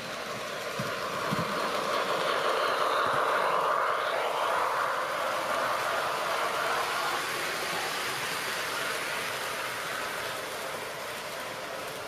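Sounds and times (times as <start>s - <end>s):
model train coaches rolling: 0.0s - 12.0s.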